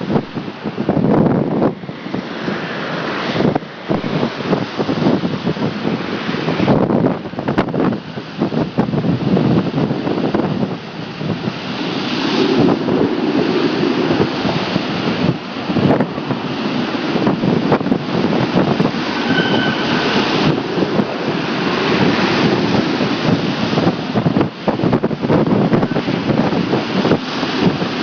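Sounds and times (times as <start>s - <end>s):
strong gusting wind on microphone: 0.0s - 28.0s.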